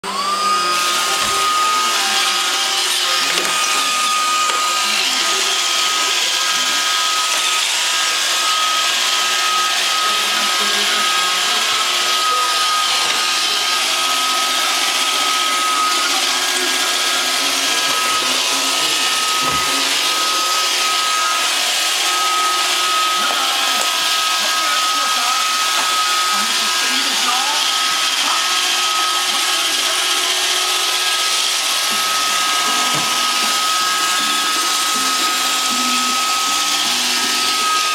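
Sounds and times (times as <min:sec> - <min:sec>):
robot vacuum motor whine: 0:00.0 - 0:37.9.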